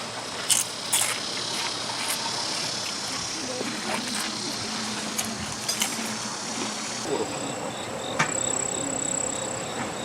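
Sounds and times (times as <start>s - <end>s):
insect high-pitched buzz: 0.4s - 10.0s
pulsing insect chirp: 0.6s - 10.0s.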